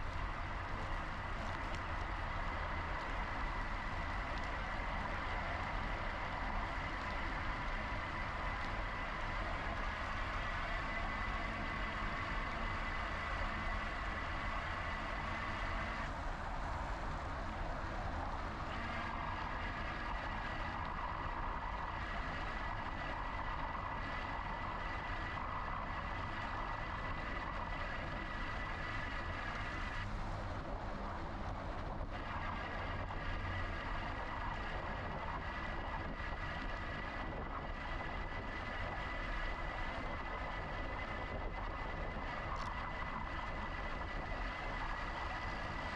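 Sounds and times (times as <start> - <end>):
high electric motor whine: 0.0 - 45.9
wind and tyres rumbling: 0.0 - 45.9.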